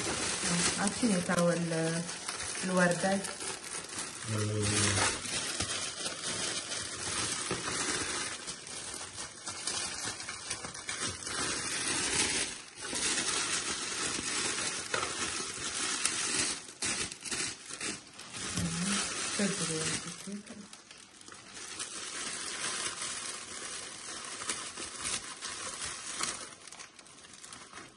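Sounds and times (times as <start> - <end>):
cellophane wrap crinkling: 0.0 - 27.9.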